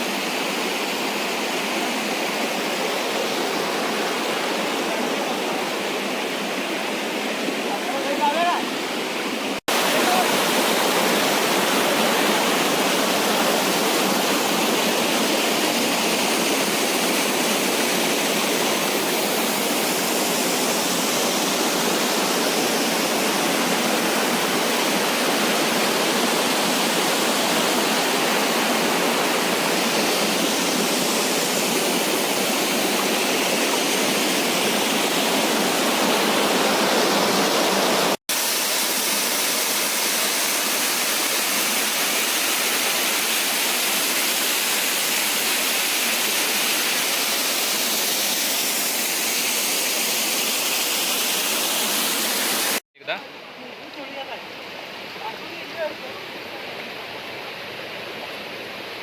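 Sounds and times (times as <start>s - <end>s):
waterfall roaring: 0.0s - 52.8s.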